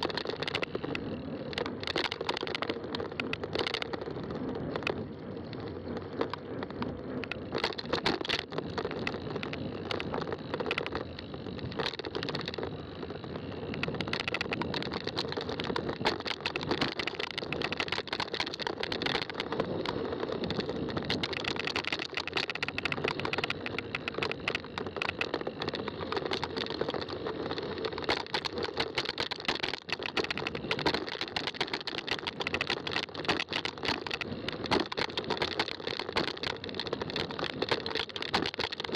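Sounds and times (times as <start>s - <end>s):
bike clicking and rattling: 0.0s - 38.9s
bike tyres rolling on trail: 0.0s - 38.9s.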